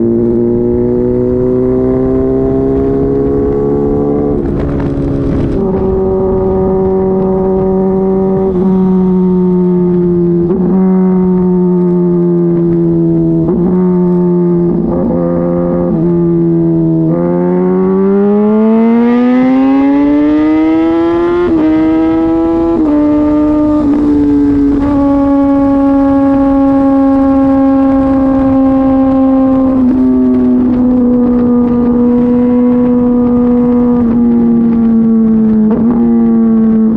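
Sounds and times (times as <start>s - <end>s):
motorcycle engine droning: 0.0s - 36.9s.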